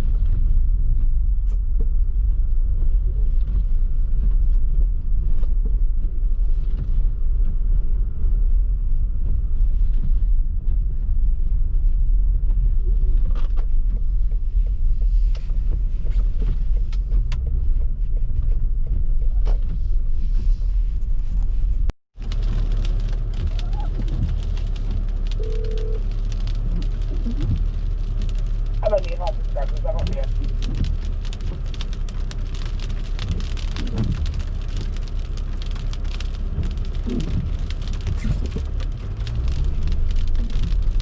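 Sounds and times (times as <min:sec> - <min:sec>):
car driving low rumble: 0:00.0 - 0:41.0.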